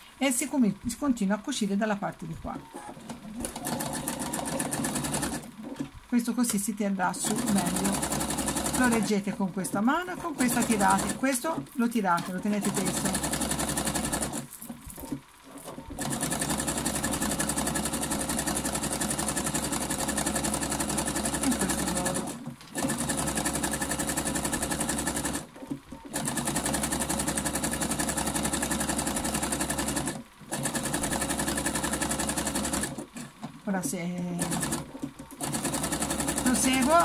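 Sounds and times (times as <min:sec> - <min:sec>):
sewing machine needle strokes: 0:02.6 - 0:05.8, 0:07.2 - 0:33.3, 0:34.3 - 0:37.0.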